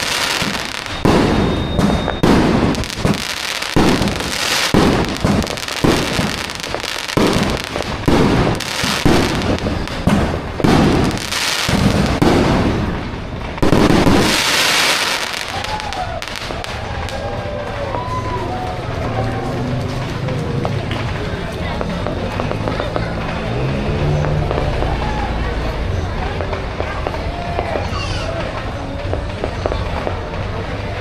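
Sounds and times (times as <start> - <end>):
fireworks bangs: 0.0 - 18.4, 19.0 - 31.0
fireworks crackling: 0.0 - 31.0.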